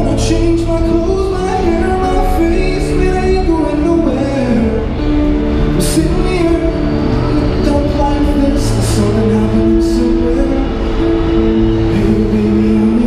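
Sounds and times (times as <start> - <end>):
acoustic guitar: 0.0 - 13.0
man singing into microphone: 0.0 - 13.0.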